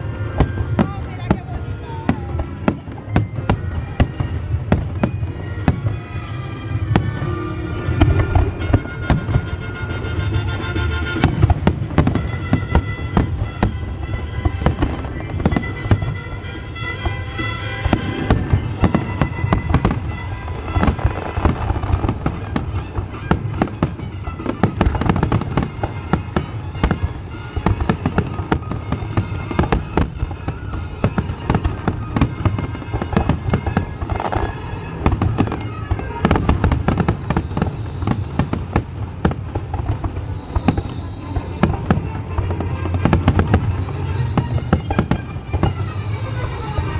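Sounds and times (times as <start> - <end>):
music: 0.0 - 39.3, 40.4 - 46.9
fireworks bursting and crackling: 0.0 - 46.9.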